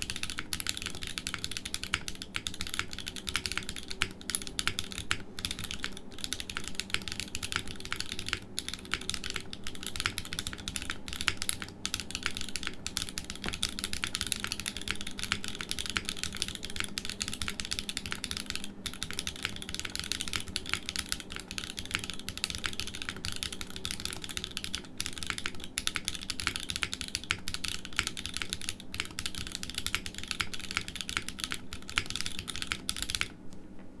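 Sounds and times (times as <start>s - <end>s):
fast typing on keyboard: 0.0s - 33.4s.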